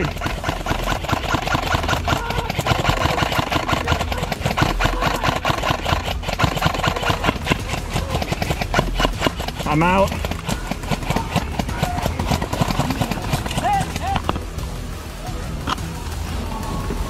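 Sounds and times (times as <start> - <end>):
airsoft rifle firing full auto: 0.0 - 14.4.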